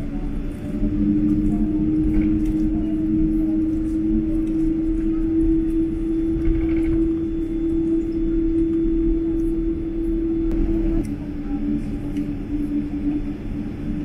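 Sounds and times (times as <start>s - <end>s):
aircraft cabin droning: 0.0s - 14.0s.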